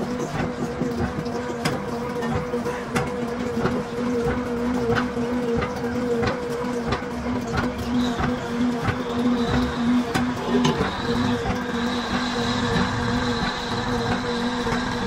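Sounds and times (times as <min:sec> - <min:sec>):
electric machine hum: 0:00.0 - 0:15.0.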